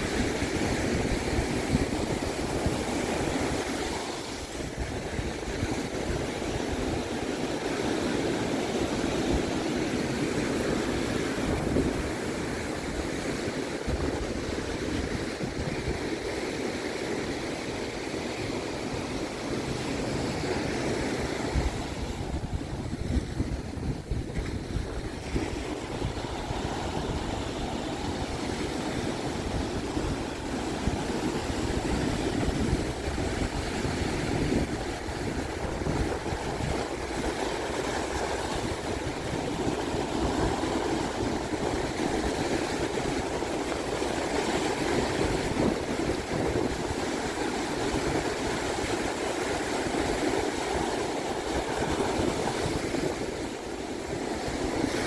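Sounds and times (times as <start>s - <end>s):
surf washing onto beach: 0.0s - 55.0s
wind rumbling on microphone: 0.0s - 55.0s.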